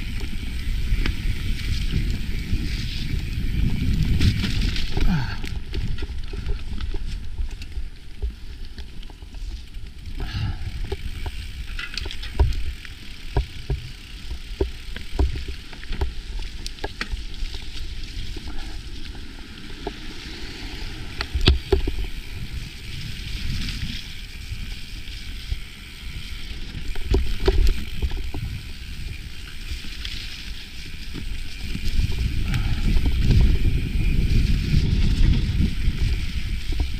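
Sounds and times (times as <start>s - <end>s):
bike clicks and rattles: 0.0s - 36.9s
bike tyres and rushing air: 0.0s - 36.9s.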